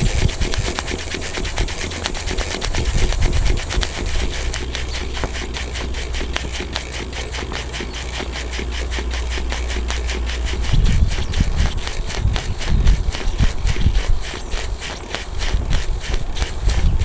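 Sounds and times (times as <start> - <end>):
model steam engine clicking: 0.0 - 17.0
steady low rumble: 0.0 - 17.0.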